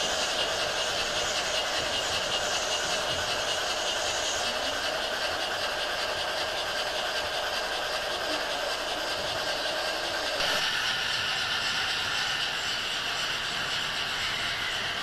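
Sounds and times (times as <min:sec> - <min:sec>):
model trains running: 0:00.0 - 0:15.0.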